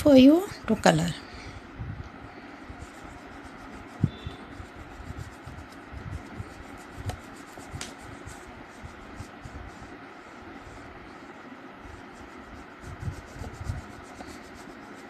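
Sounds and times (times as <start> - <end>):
colouring strokes on paper: 2.3 - 15.0.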